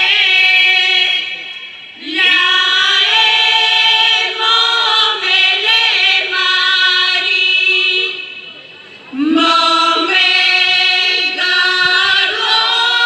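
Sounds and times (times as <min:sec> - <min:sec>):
women singing folk song together: 0:00.0 - 0:08.3, 0:09.1 - 0:13.0.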